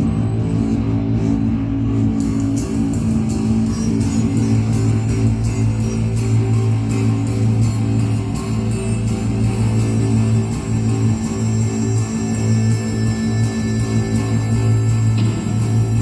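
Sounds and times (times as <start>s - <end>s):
high ticking beat: 0.1s - 16.0s.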